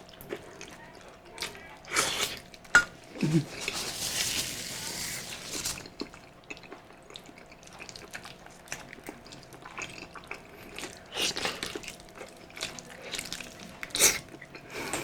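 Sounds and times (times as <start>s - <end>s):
person chewing and slurping: 1.8s - 15.0s.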